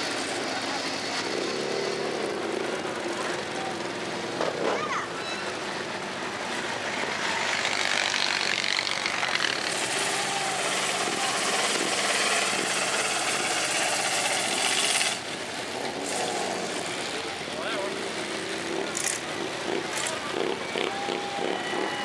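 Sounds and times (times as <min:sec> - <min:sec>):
off-road engines revving: 0:00.0 - 0:22.0.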